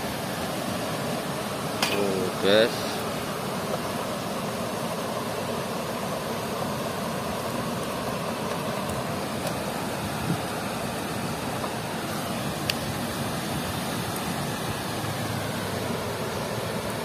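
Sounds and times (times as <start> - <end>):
water rushing through sluice gates: 0.0 - 17.0.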